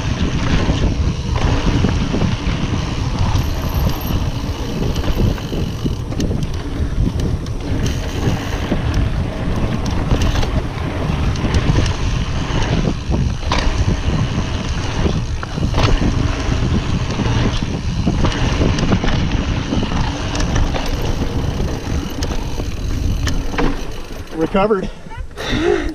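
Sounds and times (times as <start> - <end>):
wind rushing over microphone: 0.0 - 24.6
bike rattling over bumps: 0.0 - 25.4
tyres rumbling on dirt: 0.0 - 25.6.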